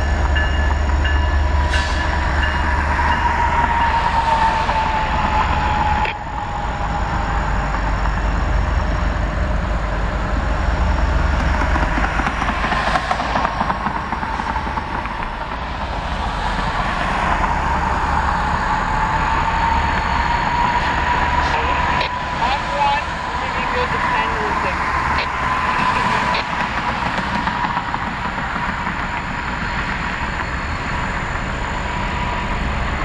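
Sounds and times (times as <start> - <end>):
diesel locomotives idling: 0.0 - 33.0.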